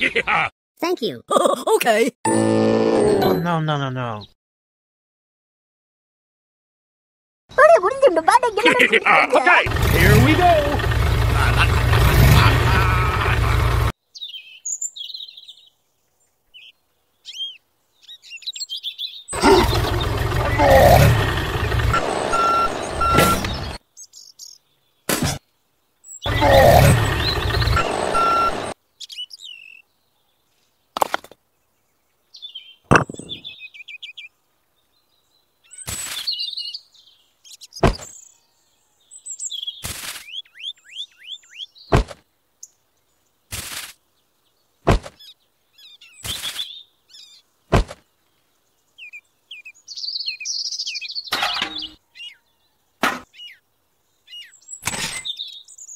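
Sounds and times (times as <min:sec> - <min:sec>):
birds chirping: 0:03.2 - 0:04.4, 0:07.5 - 0:55.9.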